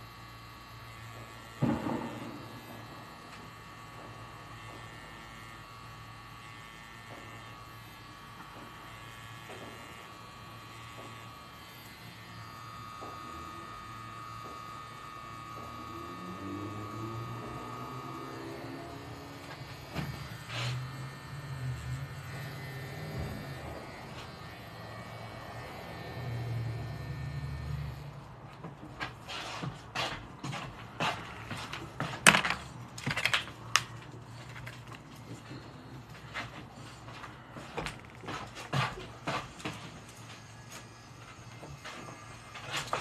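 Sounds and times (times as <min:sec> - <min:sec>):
tattoo machine humming: 0:00.0 - 0:43.0.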